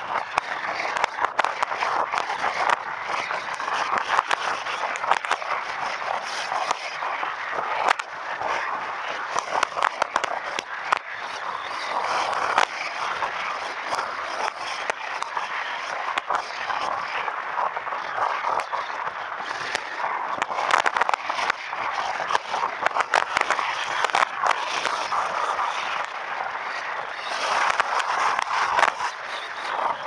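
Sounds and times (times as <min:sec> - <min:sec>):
crackling clicks: 0:00.0 - 0:30.0
wind rushing over microphone: 0:00.0 - 0:30.0.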